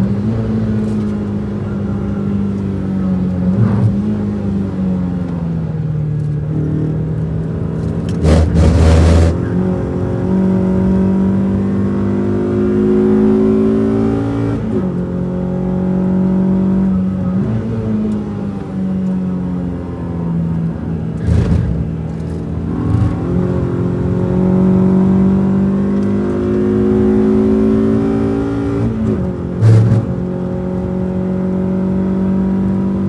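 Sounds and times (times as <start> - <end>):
car engine revving under load: 0.0 - 33.0.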